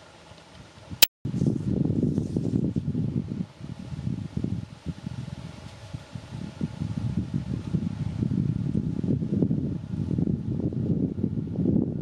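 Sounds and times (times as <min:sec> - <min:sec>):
wind buffeting the microphone: 0:00.8 - 0:12.0.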